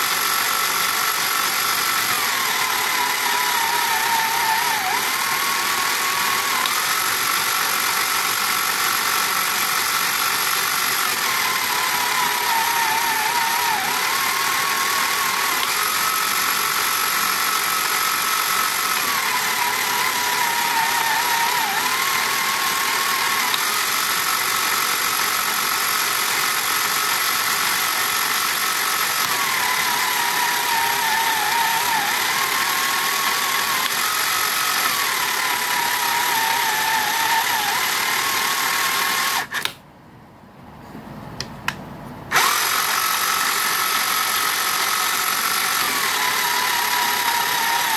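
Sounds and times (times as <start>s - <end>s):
toy motor and gears whining: 0.0s - 39.8s, 42.3s - 47.9s.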